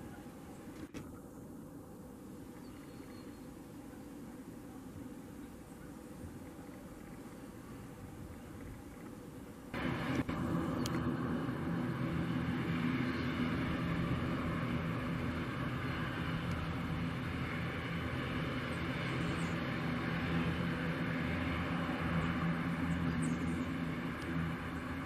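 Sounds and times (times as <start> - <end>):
jet engines idling: 0.0 - 25.0.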